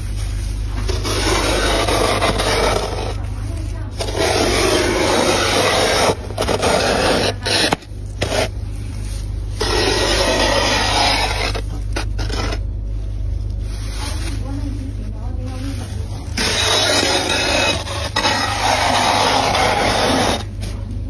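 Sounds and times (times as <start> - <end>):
frost being scraped: 0.0 - 20.8
low steady hum: 0.0 - 21.0.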